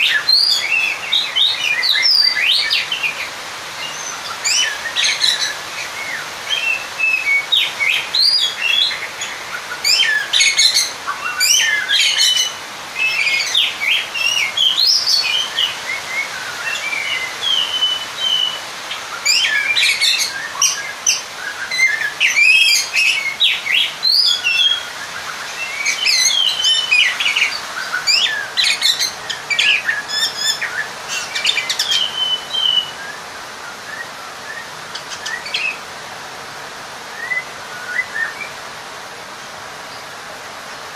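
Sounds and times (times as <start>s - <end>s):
magpie-robin singing: 0.0s - 33.2s, 33.8s - 35.9s, 37.1s - 38.6s.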